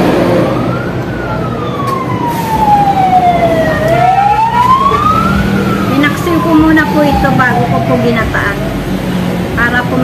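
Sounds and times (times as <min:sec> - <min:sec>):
wailing siren: 0:00.0 - 0:08.9.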